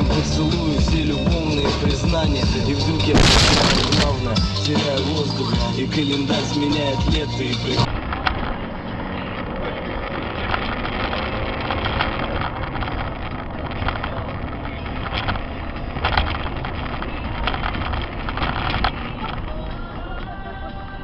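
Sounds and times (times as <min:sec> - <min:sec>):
vehicle road noise rumble: 0:00.0 - 0:21.0.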